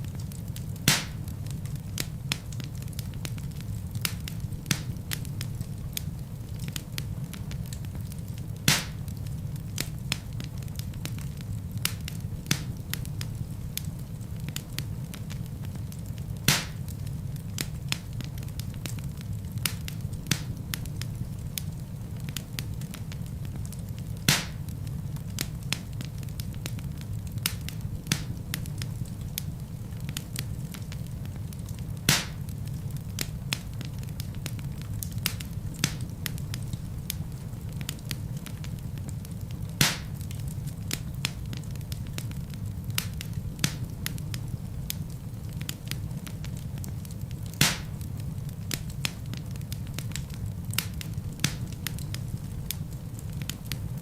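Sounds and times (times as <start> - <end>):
low rumble of flames: 0.0 - 54.0
sharp pops from burning logs: 0.0 - 54.0
small crackles of fire: 0.0 - 54.0.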